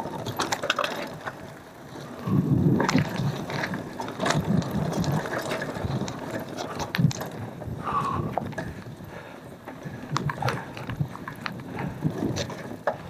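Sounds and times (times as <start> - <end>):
bike clicks and rattles: 0.0 - 13.0
bike tyre rumble on dirt: 0.0 - 13.0.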